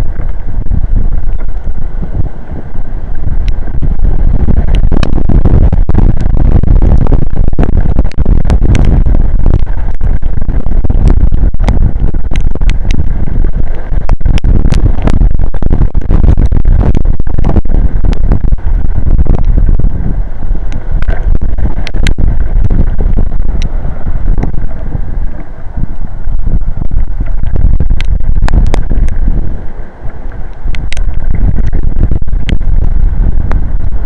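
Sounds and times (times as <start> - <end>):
heavy rain: 0.0 - 34.0
wind buffeting microphone: 0.0 - 34.0
sharp ticks and cracks: 3.2 - 20.0, 20.6 - 25.5, 26.2 - 34.0.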